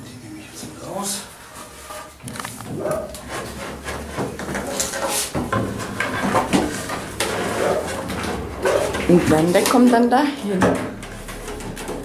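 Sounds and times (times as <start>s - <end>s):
wood scraping on wood: 0.6s - 12.0s.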